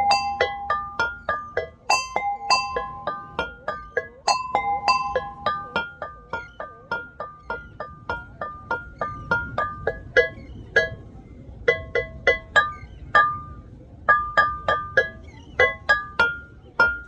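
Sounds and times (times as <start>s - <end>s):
mallet percussion tune: 0.0s - 17.0s.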